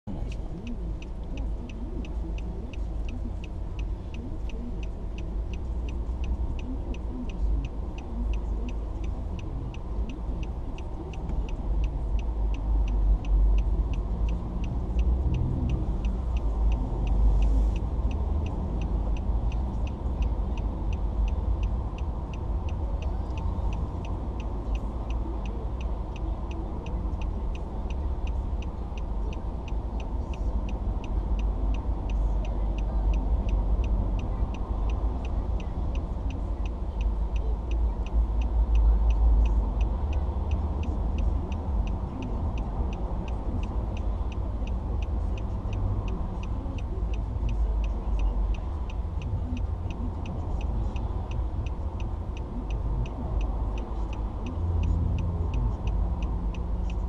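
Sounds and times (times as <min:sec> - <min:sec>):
passing traffic rumble: 0:00.0 - 0:57.0
car turn indicator ticking: 0:00.1 - 0:57.0.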